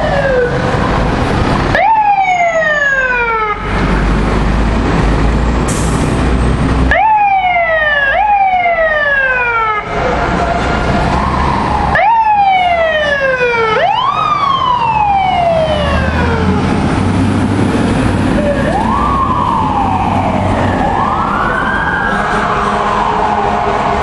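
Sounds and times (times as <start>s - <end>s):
fire truck engine rumble: 0.0s - 24.0s
fire truck sirens wailing: 0.0s - 24.0s.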